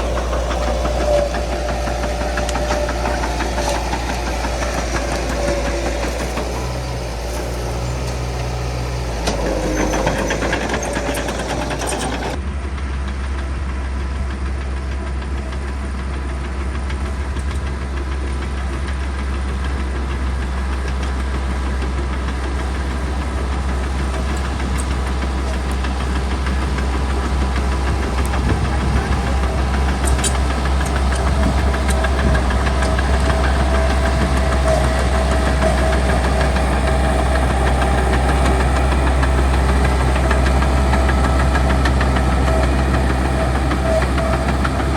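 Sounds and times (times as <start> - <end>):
bulldozer diesel engine drone: 0.0 - 44.9.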